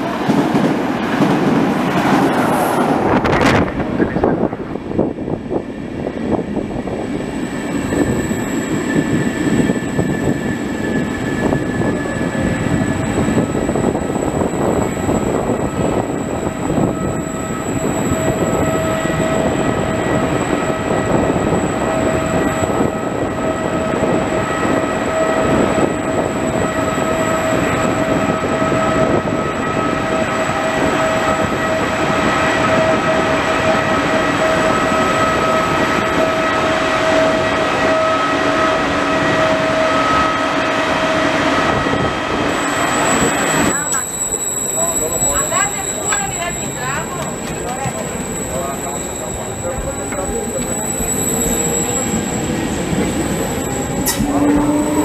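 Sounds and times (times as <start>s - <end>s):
train wheels rumbling on rail: 0.0s - 55.0s
steady whining tone: 3.0s - 55.0s.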